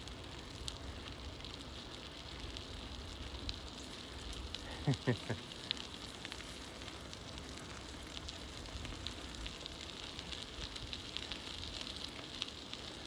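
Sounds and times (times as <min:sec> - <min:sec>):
irregular crackling ticks: 0:00.0 - 0:13.0
steady hiss: 0:00.0 - 0:13.0.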